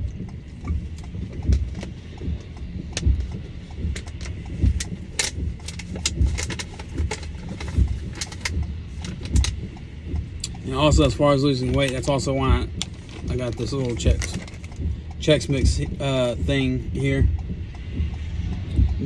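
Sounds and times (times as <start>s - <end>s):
raindrops ticking on glass: 0.0s - 19.0s
road noise: 0.0s - 19.0s
windshield wipers thumping: 0.0s - 19.0s.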